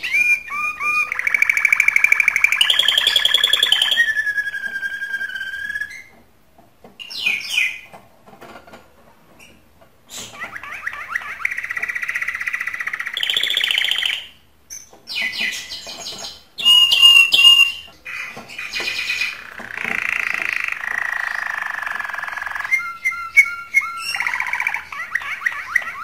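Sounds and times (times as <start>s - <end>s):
canary singing: 0.0s - 6.2s, 10.1s - 26.0s.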